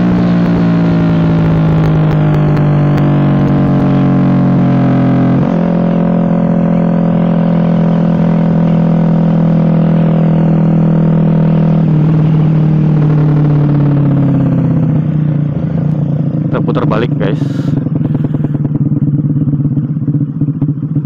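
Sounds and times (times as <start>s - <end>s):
motorcycle engine revving loud: 0.0s - 21.0s.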